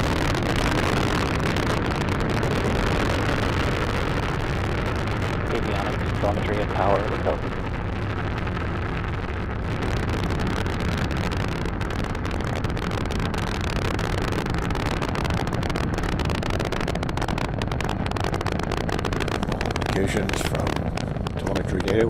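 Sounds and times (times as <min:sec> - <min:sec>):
rocket engines rumbling and crackling: 0:00.0 - 0:22.0.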